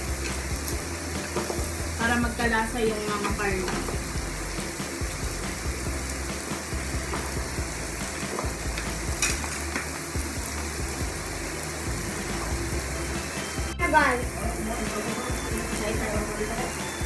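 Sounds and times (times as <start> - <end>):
pork sizzling on grill: 0.0 - 17.0.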